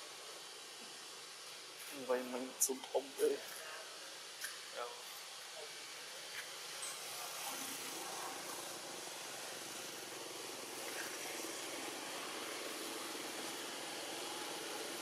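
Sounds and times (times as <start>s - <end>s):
steady hum with hiss: 0.0s - 15.0s.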